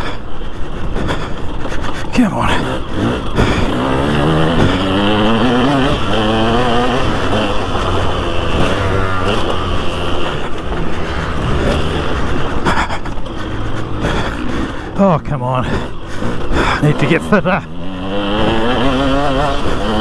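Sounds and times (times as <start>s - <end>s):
motocross engine revving: 2.0s - 20.0s.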